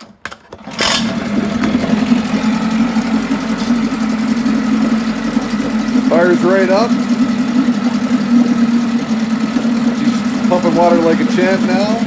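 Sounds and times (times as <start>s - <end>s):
outboard motor running: 0.6s - 12.0s.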